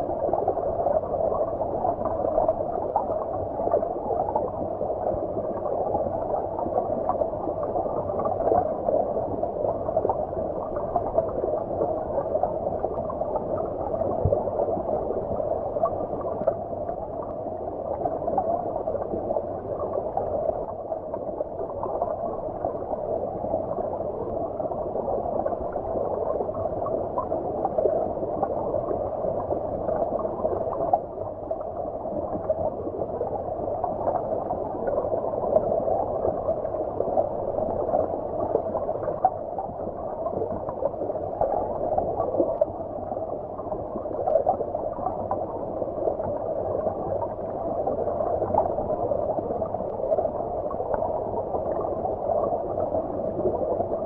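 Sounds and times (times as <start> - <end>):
muffled underwater stream gurgling: 0.0 - 54.0.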